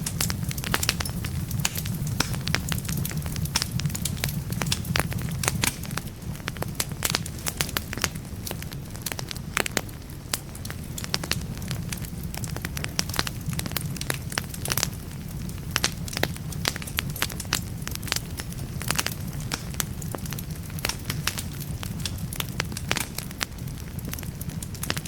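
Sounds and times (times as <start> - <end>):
burning logs crackling and popping: 0.0 - 25.0
flames rumbling: 0.0 - 25.0.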